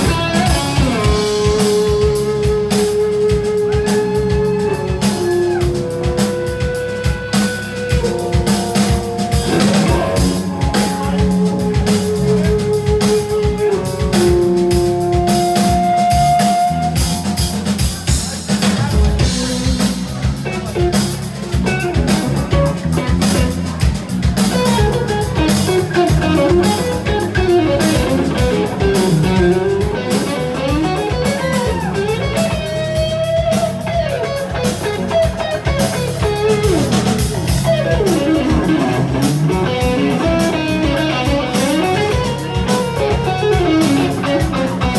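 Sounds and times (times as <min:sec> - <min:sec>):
electric guitar solo: 0:00.0 - 0:17.7, 0:24.4 - 0:44.9
band with drums: 0:00.0 - 0:44.9.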